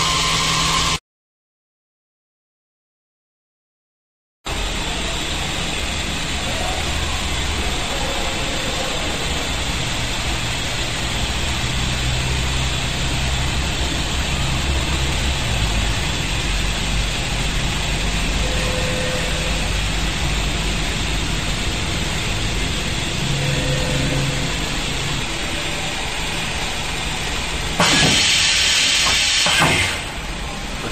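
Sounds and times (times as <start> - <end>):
machine hum with hiss: 4.5 - 30.9.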